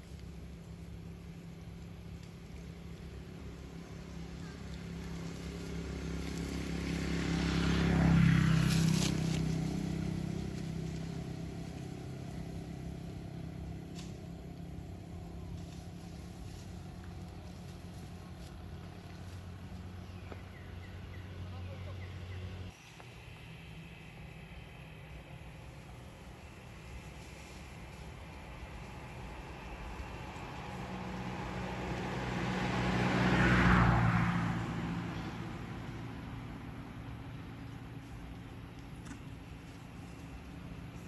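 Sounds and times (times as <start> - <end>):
vehicle passing by: 0.0 - 41.0.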